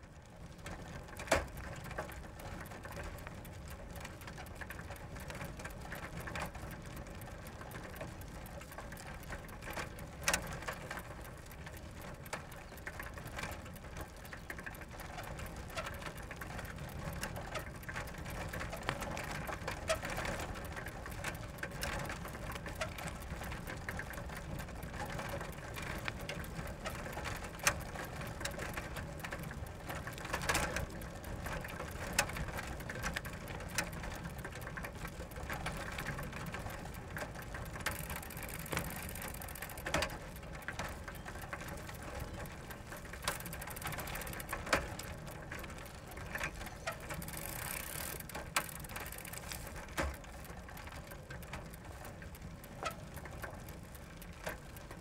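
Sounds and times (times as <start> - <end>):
bicycle rattling and clicking: 0.0 - 55.0.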